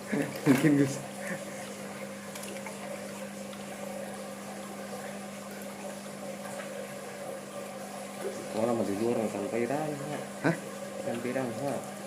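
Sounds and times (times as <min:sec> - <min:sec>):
aquarium pump humming: 0:00.0 - 0:12.0
moving water: 0:00.0 - 0:12.0.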